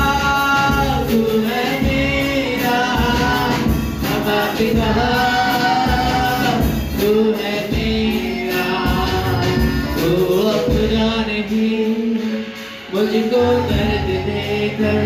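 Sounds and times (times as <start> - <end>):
voices singing worship song: 0.0 - 15.0.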